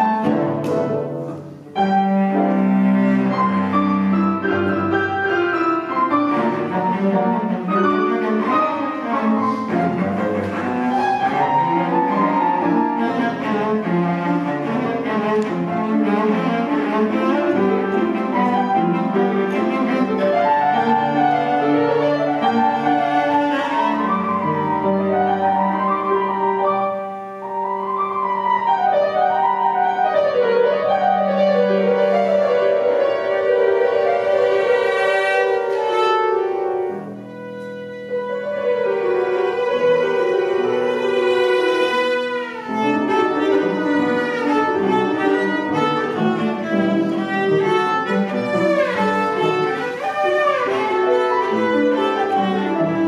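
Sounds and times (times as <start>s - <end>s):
cello and piano playing fast: 0.0s - 53.0s.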